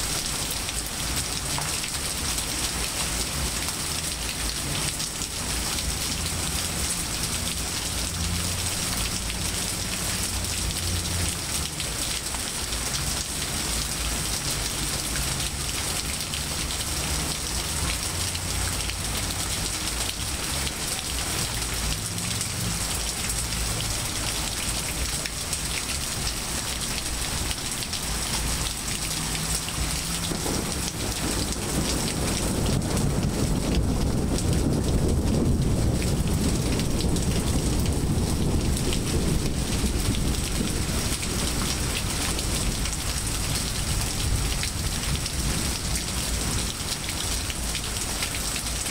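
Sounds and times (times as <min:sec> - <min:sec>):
rain falling on leaves and pavement: 0:00.0 - 0:48.9.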